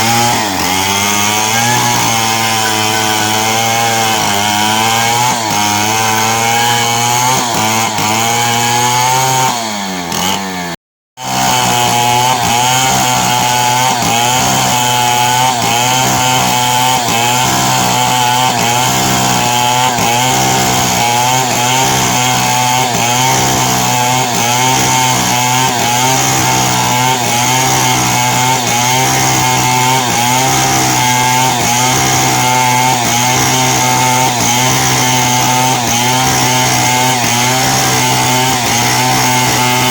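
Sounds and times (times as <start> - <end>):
chainsaw cutting timber: 0.0 - 39.9.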